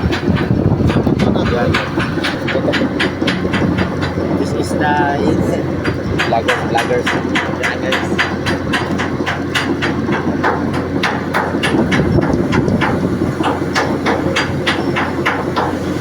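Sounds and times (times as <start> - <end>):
gearbox humming: 0.0 - 16.0
rhythmic clacking: 0.0 - 16.0.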